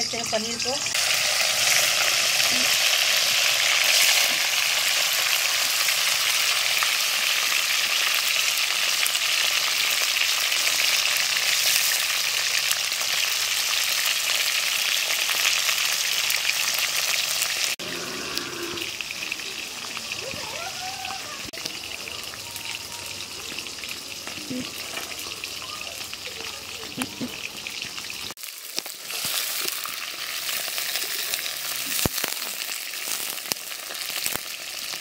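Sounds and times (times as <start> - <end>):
cheese cubes sizzling in hot oil: 0.0 - 35.0.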